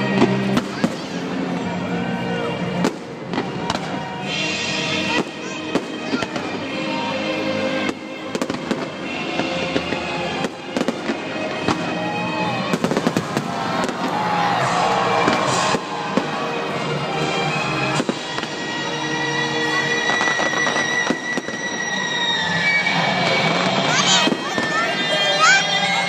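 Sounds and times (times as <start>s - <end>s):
fireworks bangs and crackles: 0.0s - 26.0s
music: 0.0s - 26.0s.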